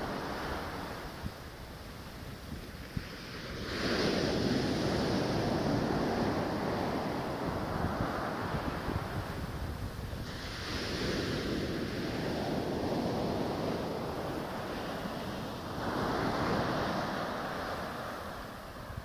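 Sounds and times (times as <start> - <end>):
waves washing up beach: 0.0 - 19.0
wind rumbling on microphone: 0.0 - 19.0.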